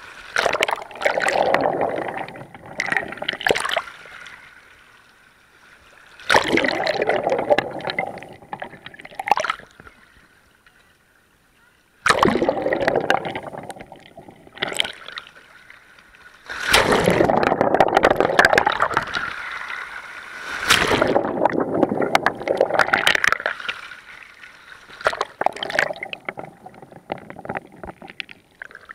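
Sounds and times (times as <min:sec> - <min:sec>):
muffled waves rushing and gurgling: 0:00.0 - 0:04.9, 0:05.7 - 0:10.2, 0:12.0 - 0:15.5, 0:16.4 - 0:28.9.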